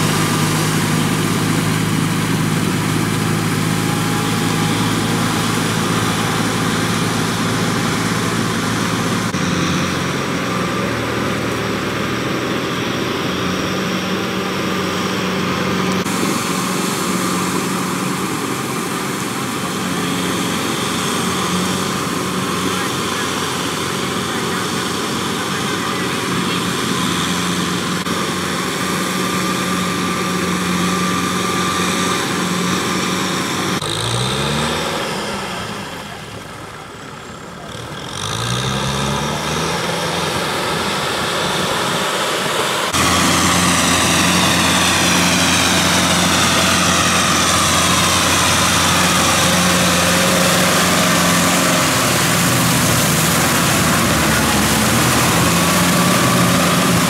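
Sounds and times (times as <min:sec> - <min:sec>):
rotary tiller churning mud: 0:00.0 - 0:57.0
tractor diesel engine running: 0:00.0 - 0:57.0.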